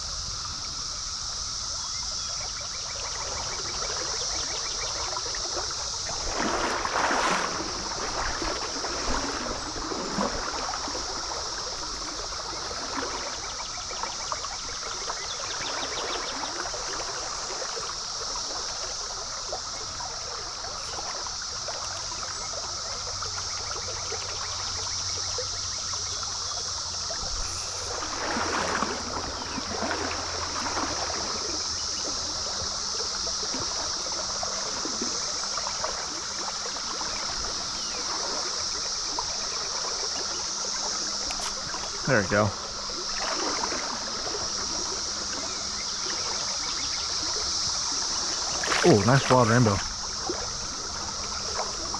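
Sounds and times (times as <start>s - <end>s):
cicada chorus drone: 0.0s - 51.9s
stream water running: 0.0s - 51.9s
water splashing: 2.4s - 51.9s.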